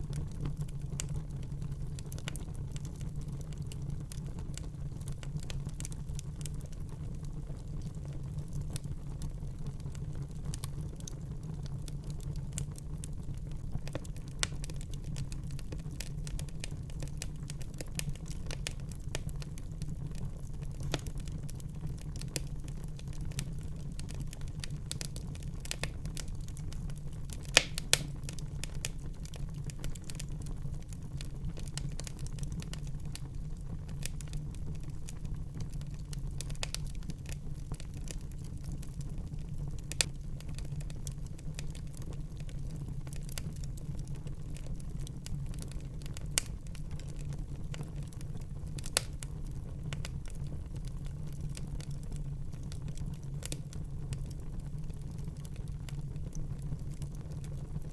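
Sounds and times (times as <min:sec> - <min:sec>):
fire burning in fireplace: 0:00.0 - 0:57.9
fire crackles and pops: 0:00.0 - 0:57.9.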